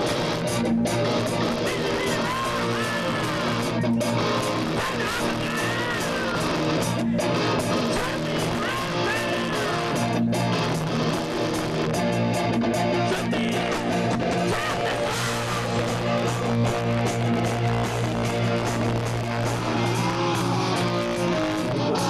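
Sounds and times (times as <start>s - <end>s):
bass guitar: 0.0s - 22.0s
electric guitar: 0.0s - 22.0s
rock band playing live: 0.0s - 22.0s.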